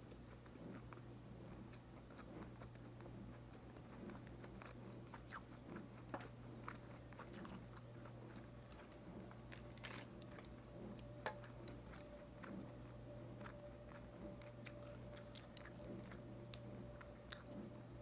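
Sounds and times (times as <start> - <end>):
low hum: 0.0 - 18.0
wet crunchy chewing: 0.0 - 18.0.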